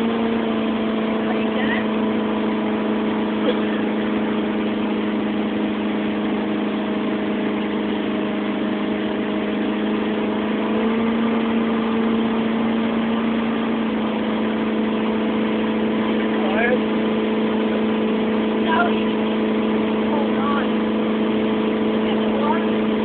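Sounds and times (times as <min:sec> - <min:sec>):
motorboat engine running: 0:00.0 - 0:23.0.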